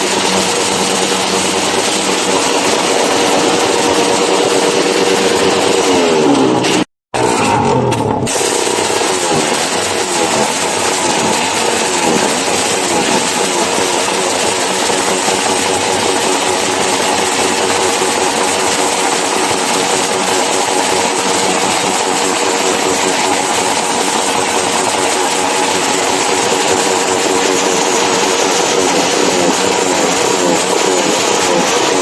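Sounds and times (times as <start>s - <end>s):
motorcycle engines running: 0.0s - 32.0s.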